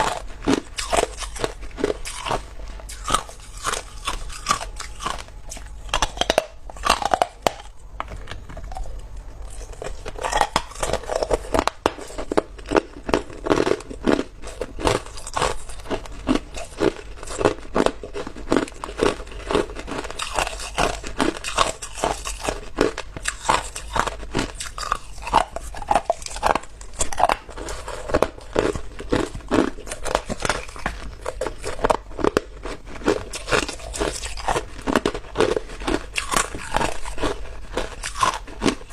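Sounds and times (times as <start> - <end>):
chewing hard ice: 0.0 - 38.9.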